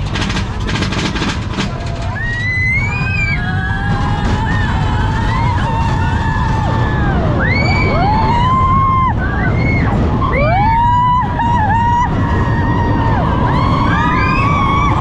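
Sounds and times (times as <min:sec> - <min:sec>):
roller coaster rumble: 0:00.0 - 0:15.0
wind: 0:00.0 - 0:15.0
riders screaming and whooping: 0:01.4 - 0:15.0.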